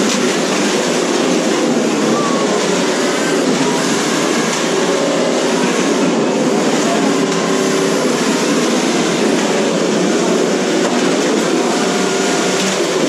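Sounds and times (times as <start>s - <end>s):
toy car motors whining: 0.7s - 13.0s.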